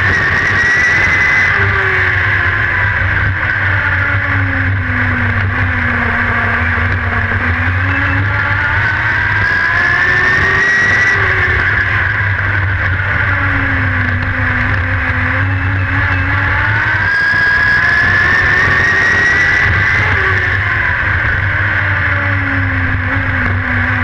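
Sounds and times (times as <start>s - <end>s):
race car engine at speed: 0.0s - 24.0s.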